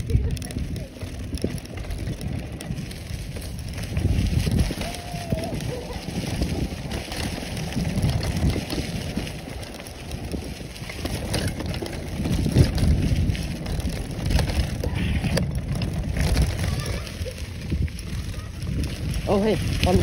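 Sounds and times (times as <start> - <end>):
bike tyres crunching leaves: 0.0 - 20.0
low rumble of bumpy ride: 0.0 - 20.0.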